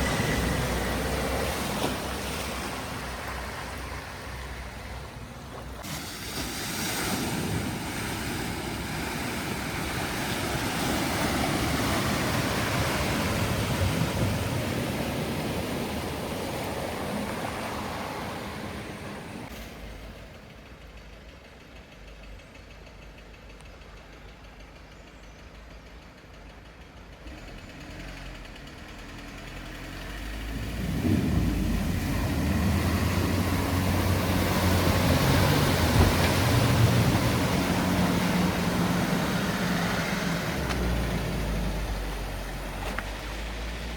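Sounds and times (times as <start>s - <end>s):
vehicles rushing through water: 0.0s - 21.2s, 27.2s - 43.9s
low engine rumble: 0.0s - 43.9s.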